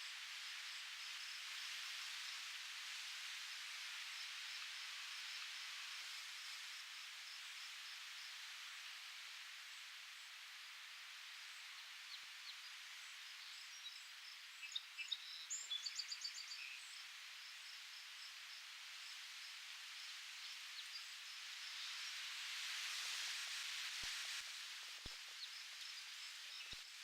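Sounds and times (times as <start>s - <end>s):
wind through leaves: 0.0s - 27.0s.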